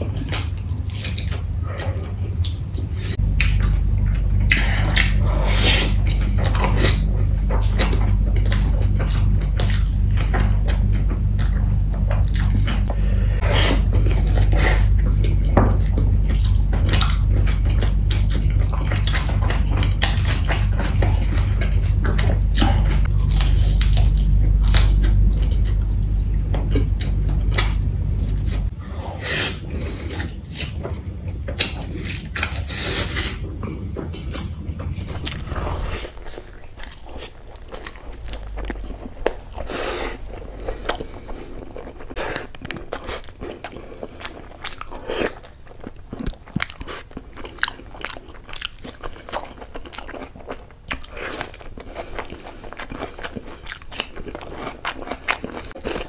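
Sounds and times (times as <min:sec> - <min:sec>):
low steady hum: 0:00.0 - 0:56.0
man chewing food: 0:00.0 - 0:56.0.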